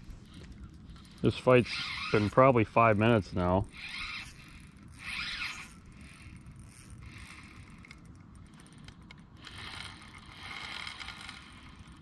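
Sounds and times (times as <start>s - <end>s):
fishing reel ratchet clicking: 0.2s - 12.0s.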